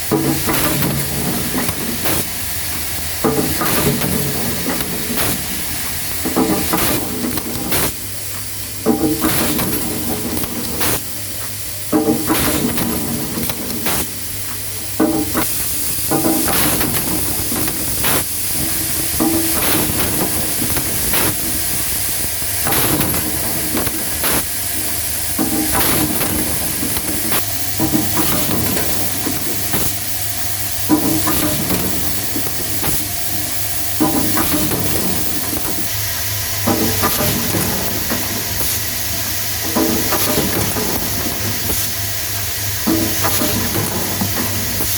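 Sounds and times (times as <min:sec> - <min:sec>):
low hum of bowl feeders: 0:00.0 - 0:44.9
mechanical clacks of cylinders: 0:00.0 - 0:44.9
pneumatic air hiss: 0:00.0 - 0:44.9.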